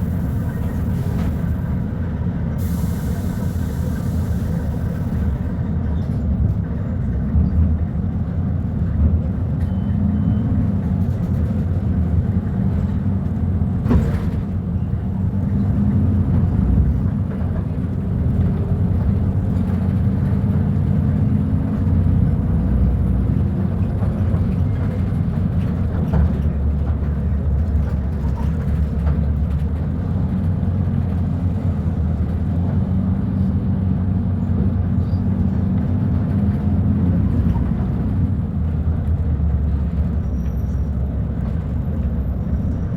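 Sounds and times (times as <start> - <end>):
bus engine rumbling: 0.0 - 42.9.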